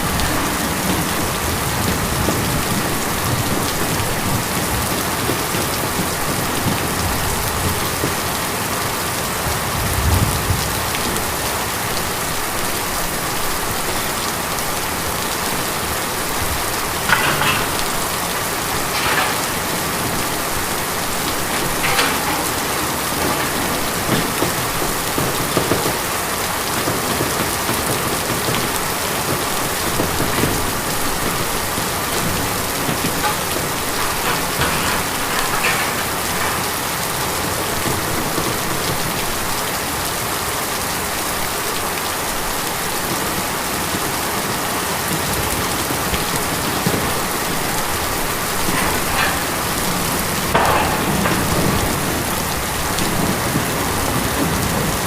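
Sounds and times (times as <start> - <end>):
rain drumming on a tin roof: 0.0 - 55.0.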